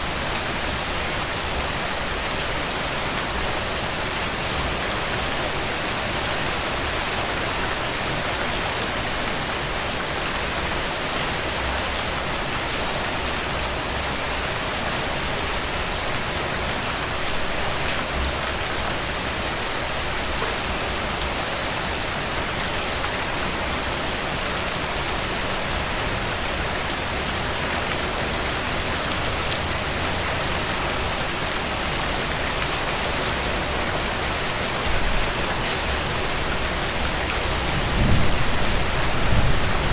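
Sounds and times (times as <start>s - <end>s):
rain pattering on a tent: 0.0s - 39.9s.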